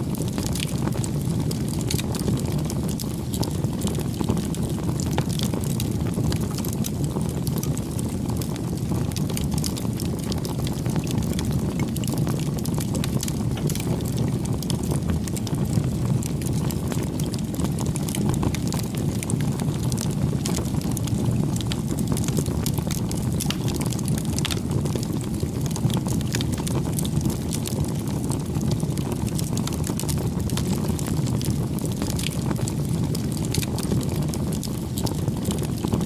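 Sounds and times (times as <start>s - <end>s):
campfire flames rumbling: 0.0s - 36.0s
burning wood crackling: 0.1s - 36.0s.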